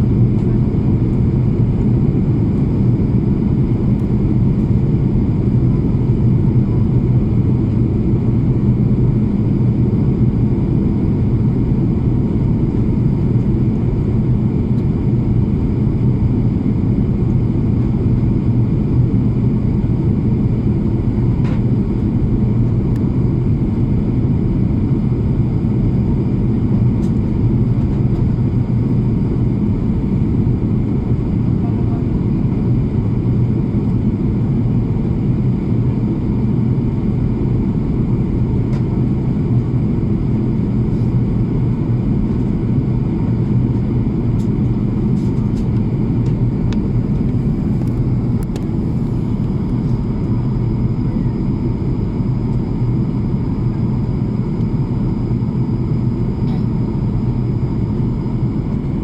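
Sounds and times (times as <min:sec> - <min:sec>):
airplane engine rumble: 0:00.0 - 0:59.0.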